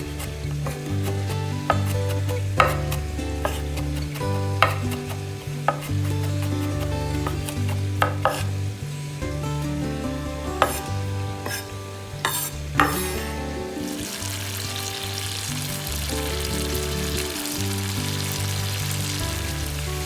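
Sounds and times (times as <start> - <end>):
background music: 0.0 - 20.0
food frying in a pan: 0.0 - 20.0.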